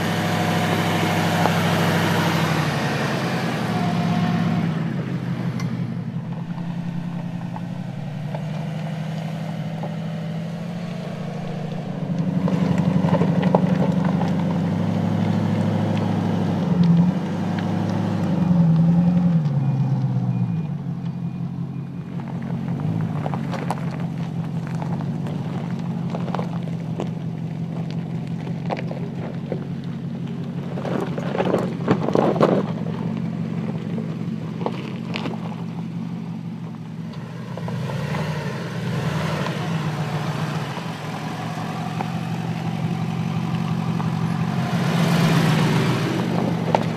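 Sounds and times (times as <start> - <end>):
car engine at low revs: 0.0 - 46.9
stones crunching under tyres: 0.0 - 46.9.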